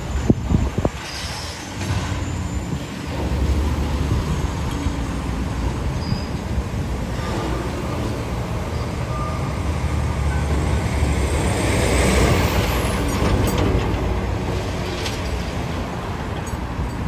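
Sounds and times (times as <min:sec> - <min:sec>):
heavy truck rumbling past: 0:00.0 - 0:16.4.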